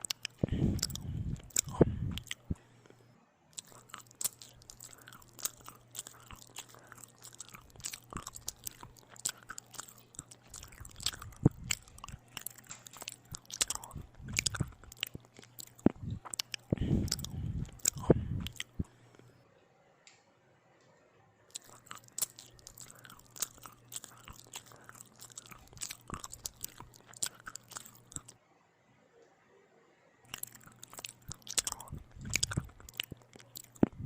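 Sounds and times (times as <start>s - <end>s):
crunchy wet mouth clicks: 0.0s - 2.6s, 3.6s - 19.2s, 21.5s - 28.4s, 30.3s - 34.0s
close-miked eating and chewing: 0.0s - 19.4s, 21.5s - 28.4s, 30.3s - 34.0s.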